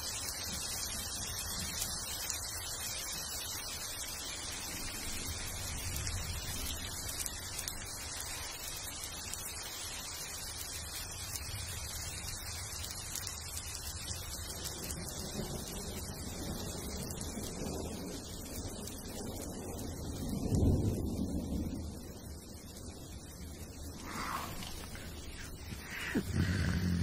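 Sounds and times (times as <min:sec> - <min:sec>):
rain falling on foliage: 0:00.0 - 0:27.0.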